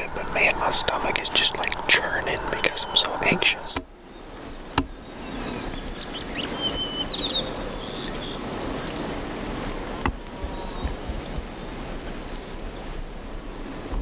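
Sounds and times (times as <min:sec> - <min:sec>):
outdoor background hiss: 0:00.0 - 0:14.0
small birds chirping: 0:00.0 - 0:14.0.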